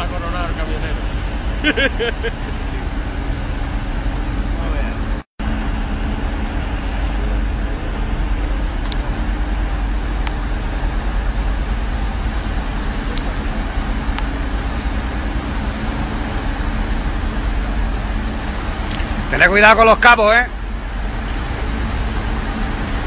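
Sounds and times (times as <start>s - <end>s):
boat engine rumbling: 0.0s - 23.0s
wind and water hiss: 0.0s - 23.0s.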